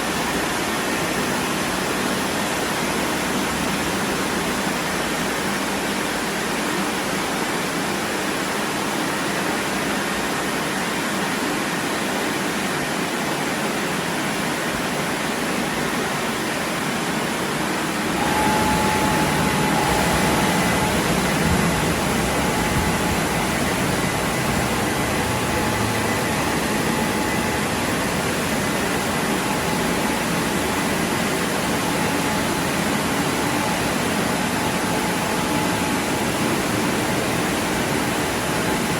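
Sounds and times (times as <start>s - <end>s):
car wash machinery rushing: 0.0s - 38.9s
steady machinery whine: 0.0s - 38.9s.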